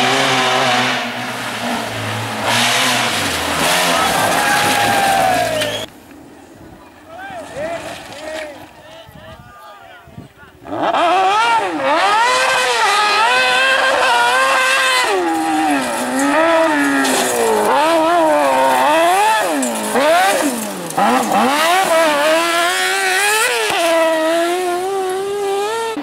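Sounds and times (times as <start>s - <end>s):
rally car engine revving: 0.0s - 5.9s, 10.6s - 26.0s.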